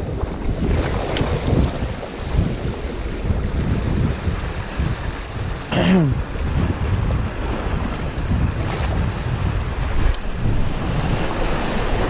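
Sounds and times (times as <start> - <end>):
waves washing against rocks: 0.0 - 12.0
wind buffeting microphone: 0.0 - 12.0.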